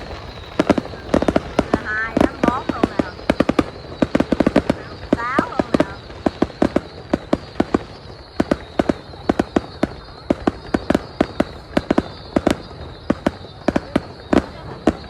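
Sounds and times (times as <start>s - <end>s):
fireworks banging and crackling: 0.0s - 15.0s.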